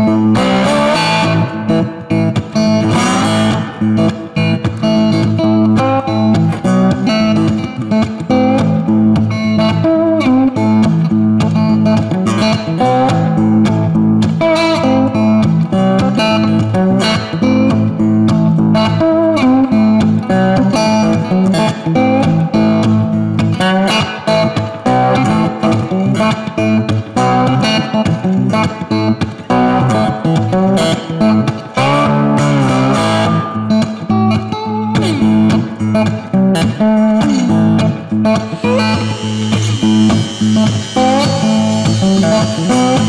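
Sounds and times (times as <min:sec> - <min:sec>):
instrumental guitar music: 0:00.0 - 0:43.0.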